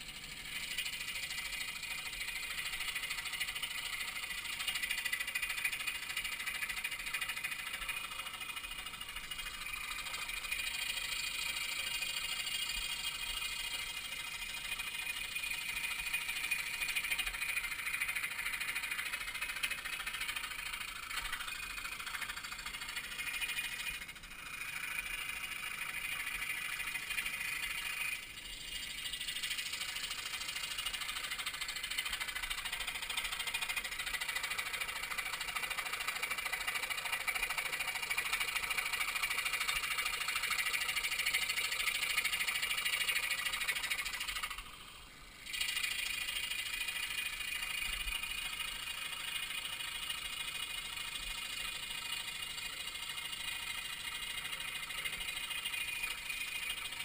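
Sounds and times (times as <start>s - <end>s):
scroll saw blade rattling: 0.0s - 57.0s.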